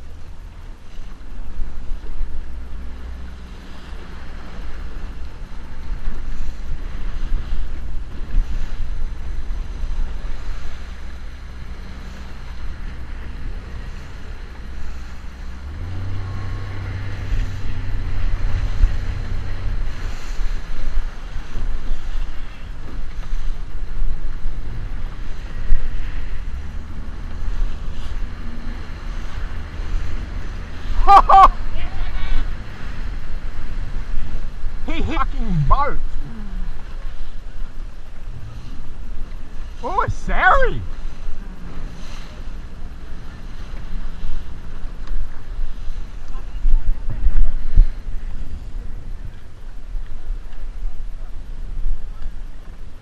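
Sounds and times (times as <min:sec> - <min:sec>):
small boat motor running: 0:00.0 - 0:53.0
water noise: 0:00.0 - 0:53.0
wind: 0:00.0 - 0:53.0.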